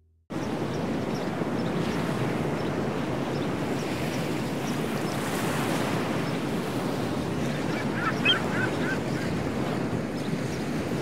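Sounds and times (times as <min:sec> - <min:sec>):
small waves washing on shore: 0:00.8 - 0:11.0.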